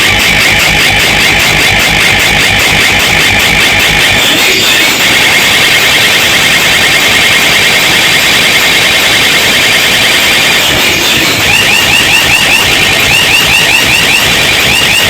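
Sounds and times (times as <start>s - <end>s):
distorted warbling siren effect: 0.0s - 15.0s.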